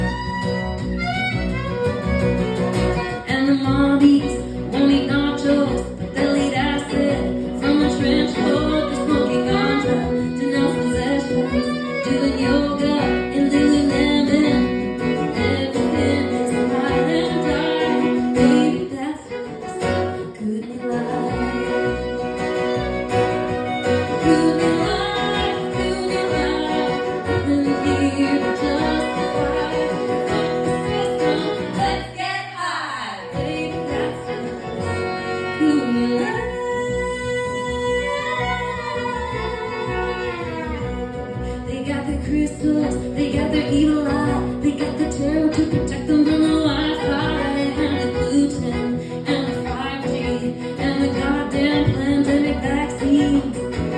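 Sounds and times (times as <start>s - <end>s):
guitar and fiddle playing: 0.0s - 53.9s
woman singing: 3.0s - 22.8s, 23.8s - 53.9s.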